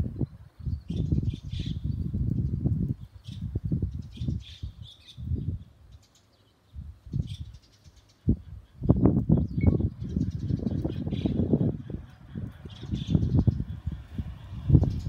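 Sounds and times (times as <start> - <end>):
low rumbling in gusts: 0.0 - 6.1, 6.7 - 15.0
birds chirping: 0.3 - 15.0.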